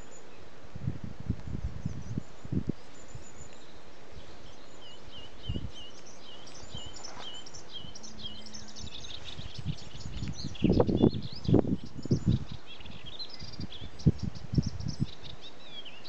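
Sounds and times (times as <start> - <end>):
warbler singing: 0.0 - 16.0.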